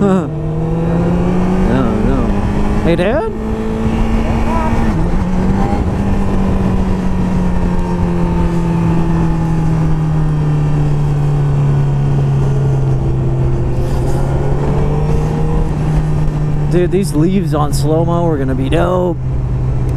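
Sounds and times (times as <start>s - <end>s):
rushing wind: 0.0s - 19.9s.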